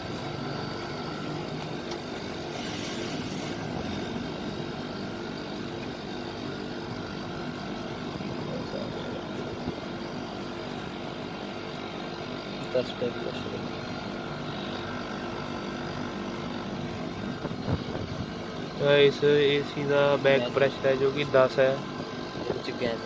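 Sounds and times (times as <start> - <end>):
air conditioner unit humming: 0.0 - 23.0.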